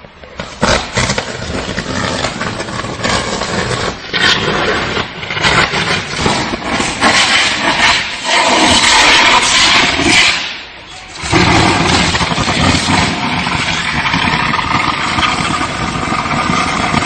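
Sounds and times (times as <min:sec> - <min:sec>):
electrical arcing crackling: 0:00.3 - 0:17.0.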